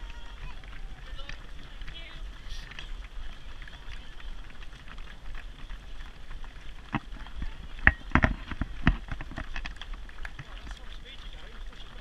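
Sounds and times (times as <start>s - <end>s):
runners' footsteps on road: 0.0s - 12.0s
running buggy rattling: 0.0s - 12.0s.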